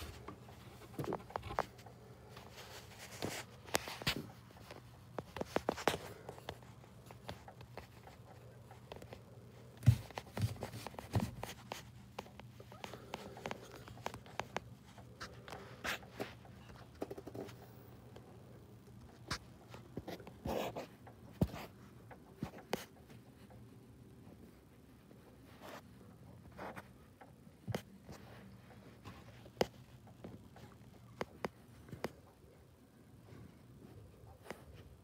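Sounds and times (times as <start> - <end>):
faint steady low hum: 0.0 - 35.0
light clicks taps and scrapes: 0.0 - 35.0.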